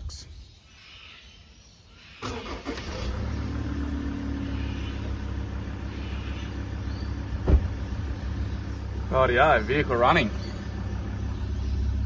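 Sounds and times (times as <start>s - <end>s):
vehicle engine idling: 2.2s - 12.0s.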